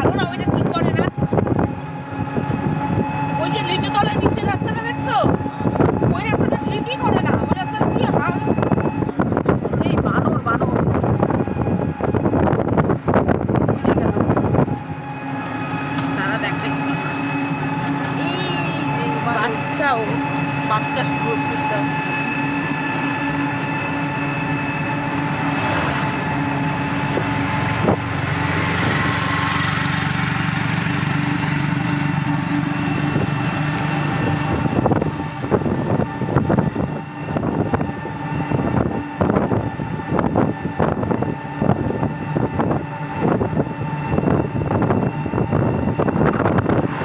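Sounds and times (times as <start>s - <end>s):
vehicle engine hum and road noise: 0.0s - 47.0s
wind buffeting: 0.0s - 47.0s.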